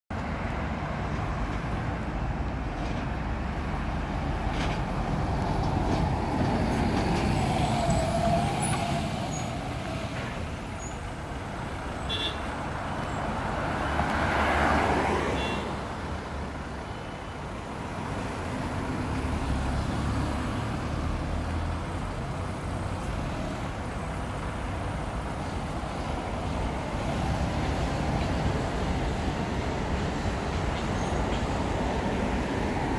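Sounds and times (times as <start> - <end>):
road traffic rumble: 0.1 - 32.9.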